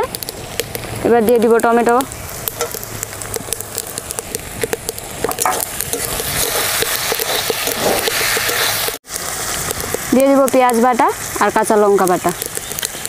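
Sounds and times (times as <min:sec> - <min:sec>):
tomatoes sizzling in oil: 0:00.0 - 0:13.0.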